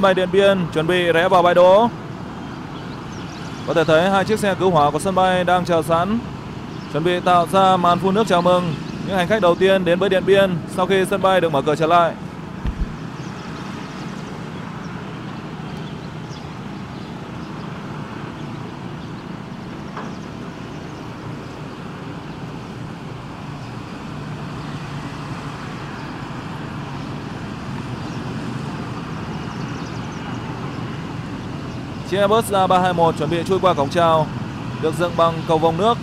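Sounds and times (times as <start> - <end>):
jet engines at taxi power: 0.0 - 36.0.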